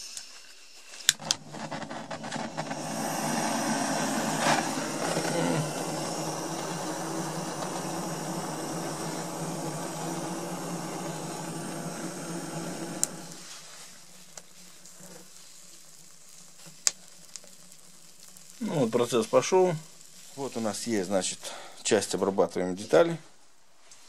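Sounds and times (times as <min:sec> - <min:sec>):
gas torch flame hissing: 0:00.0 - 0:23.8.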